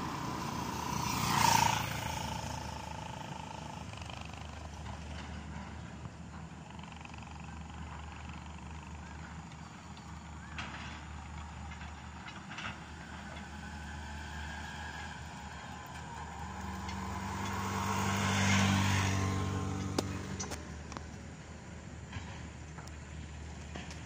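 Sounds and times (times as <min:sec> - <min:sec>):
vehicle driving past: 0:00.0 - 0:21.2.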